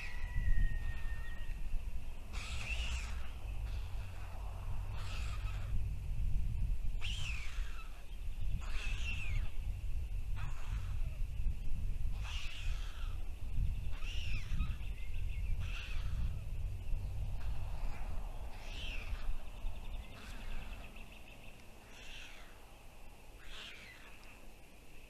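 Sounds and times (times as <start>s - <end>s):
wind rumble on microphone: 0.0s - 25.0s
bird calling: 2.2s - 5.9s, 7.0s - 11.5s, 12.1s - 25.0s.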